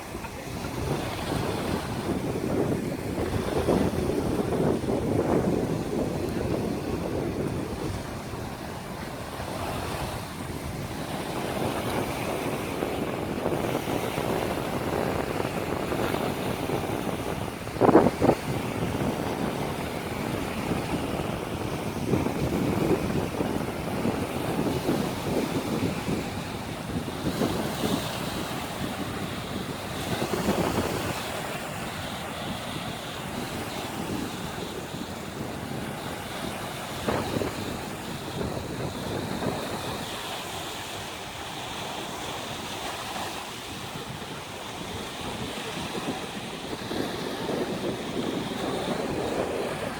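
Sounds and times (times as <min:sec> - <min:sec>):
small waves washing onto shore: 0:00.0 - 0:49.9
wind rumbling on microphone: 0:00.0 - 0:49.9.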